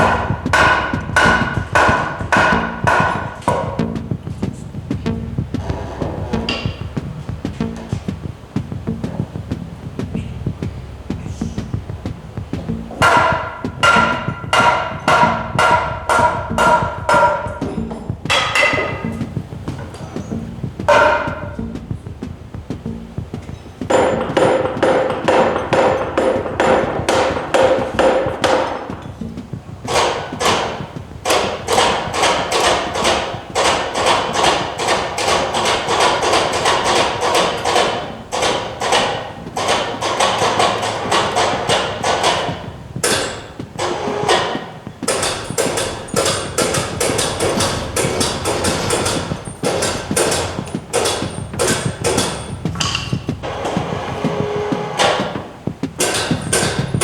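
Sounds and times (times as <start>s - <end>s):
hammer blows on wood: 0.0s - 57.0s.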